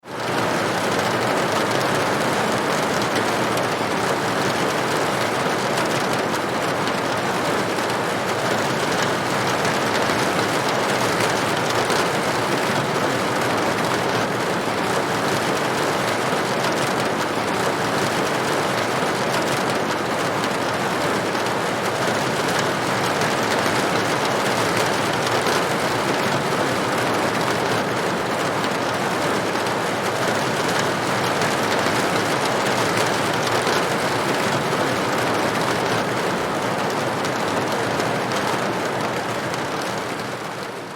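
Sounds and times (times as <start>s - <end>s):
heavy rain on window: 0.0s - 40.9s.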